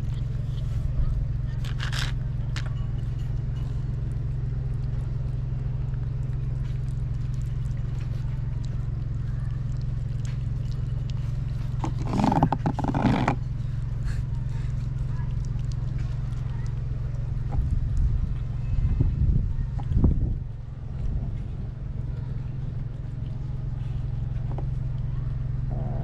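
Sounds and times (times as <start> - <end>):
kittens eating with clicks and licks: 0.0 - 26.0
steady low rumble: 0.0 - 26.0.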